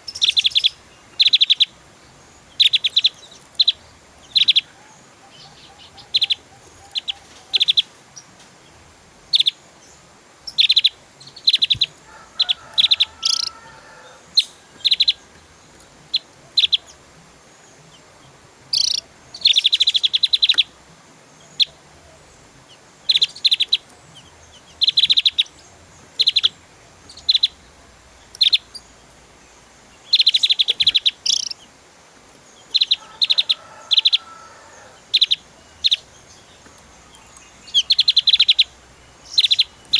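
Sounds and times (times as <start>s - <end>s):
bird chirping and trilling: 0.0s - 8.3s, 9.3s - 20.8s, 21.4s - 31.8s, 32.5s - 39.9s.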